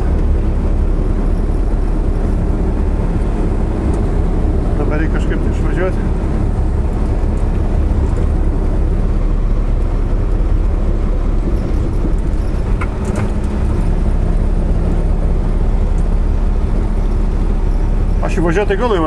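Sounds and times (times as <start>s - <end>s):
truck diesel engine humming: 0.0s - 19.0s.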